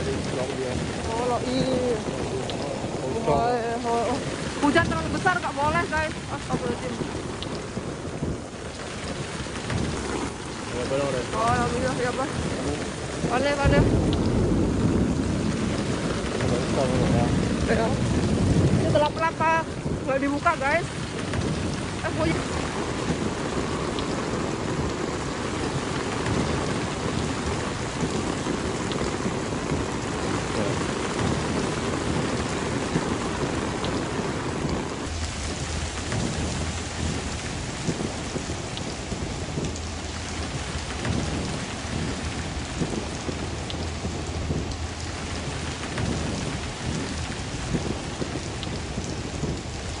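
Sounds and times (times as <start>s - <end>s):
heavy rain pouring: 0.0s - 50.0s
low rumble: 0.0s - 50.0s.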